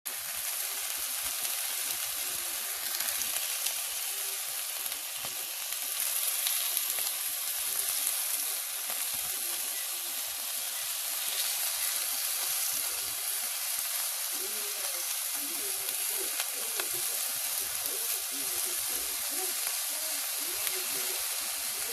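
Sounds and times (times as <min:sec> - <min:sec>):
meat sizzling in a pan: 0:00.1 - 0:21.9.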